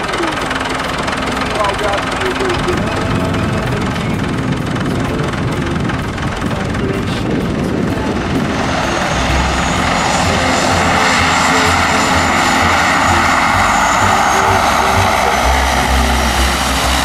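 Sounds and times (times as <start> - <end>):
high turbine whine: 0.0 - 17.0
propeller drone: 0.0 - 17.0.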